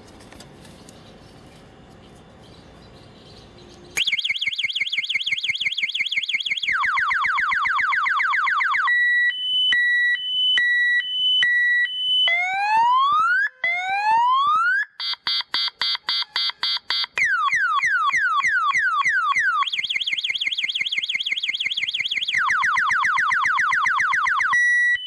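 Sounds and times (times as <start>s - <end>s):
car alarm siren: 4.0s - 25.0s.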